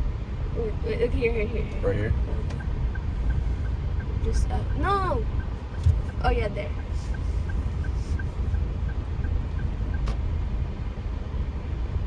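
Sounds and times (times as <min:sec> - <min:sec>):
engine and road rumble: 0:00.0 - 0:12.0
turn signal ticking: 0:00.2 - 0:12.0.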